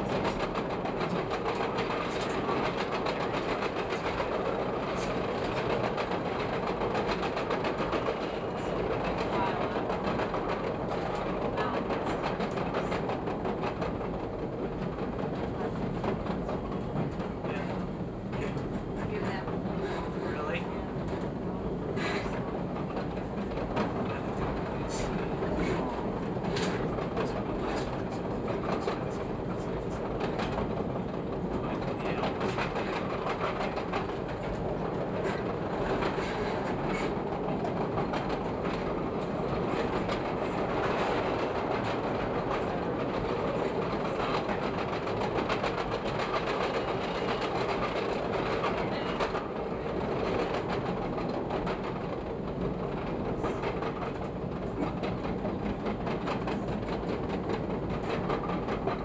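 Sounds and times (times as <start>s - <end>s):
train rumbling on elevated track: 0.0s - 59.0s.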